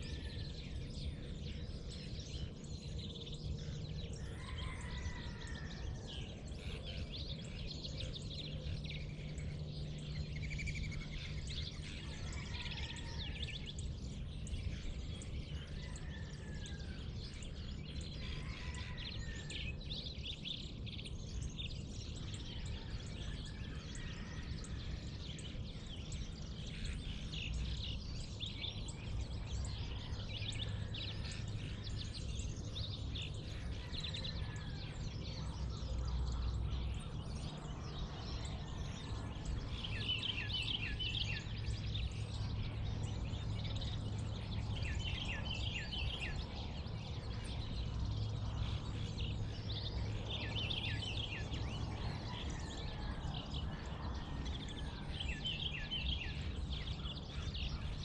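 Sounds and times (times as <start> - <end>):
birds chirping and whistling: 0.0 - 58.0
steady low hum: 0.0 - 58.0.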